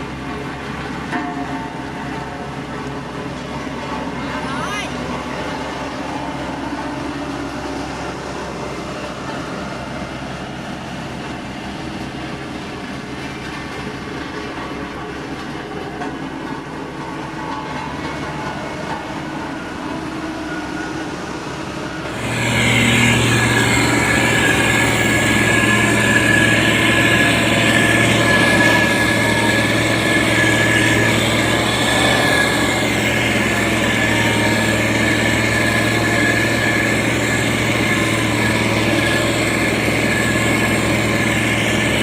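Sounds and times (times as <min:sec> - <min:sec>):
diesel construction machine running: 0:00.0 - 0:42.0.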